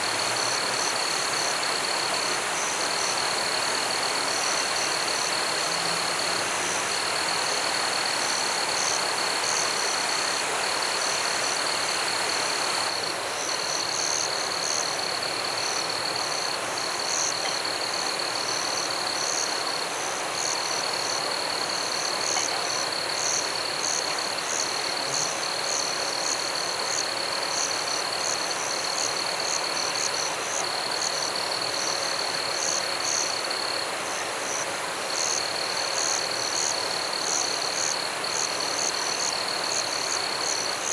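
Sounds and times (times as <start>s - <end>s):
high trilling frogs and insects: 0.0s - 40.9s.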